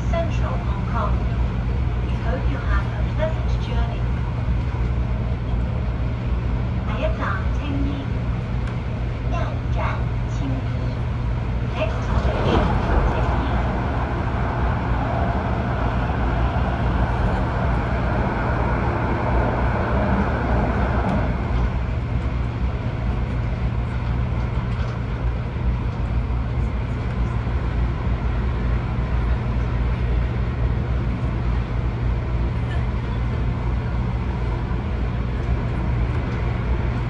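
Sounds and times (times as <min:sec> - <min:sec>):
train cabin running noise: 0:00.0 - 0:37.0.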